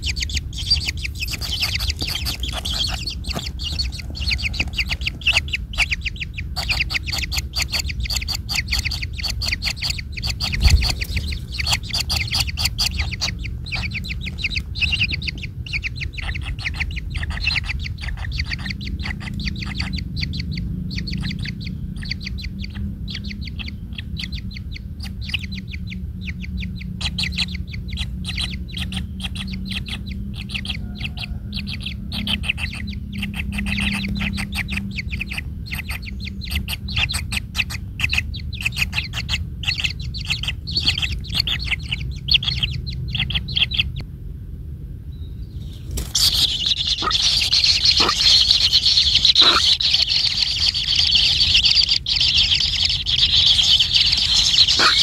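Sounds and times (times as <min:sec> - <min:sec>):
bird chattering in rapid chirps: 0:00.0 - 0:44.0, 0:45.4 - 0:55.0
low background hum: 0:00.0 - 0:55.0.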